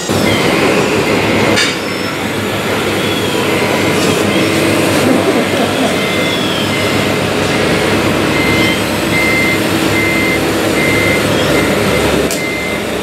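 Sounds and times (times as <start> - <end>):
reversing beeper: 0.0 - 13.0
truck engine sound: 0.0 - 13.0.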